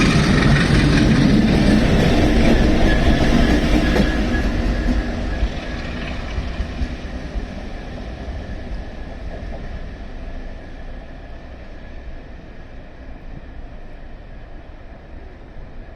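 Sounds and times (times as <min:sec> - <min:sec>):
diesel locomotive low rumble: 0:00.0 - 0:15.9.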